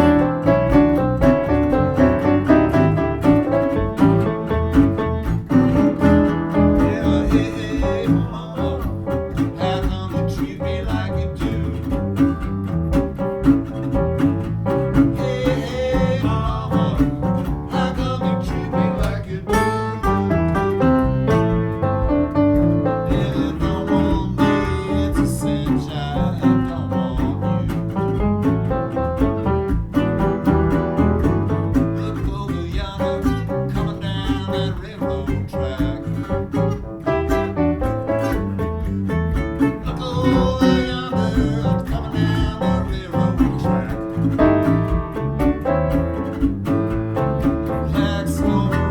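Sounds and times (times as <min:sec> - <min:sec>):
acoustic string band playing blues: 0:00.0 - 0:48.9.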